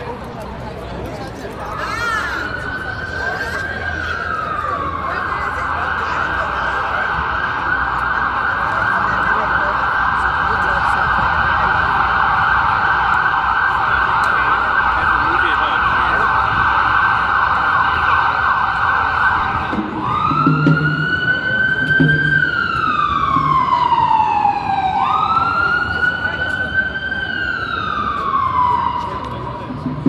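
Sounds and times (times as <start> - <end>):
emergency vehicle siren: 0.0 - 30.0.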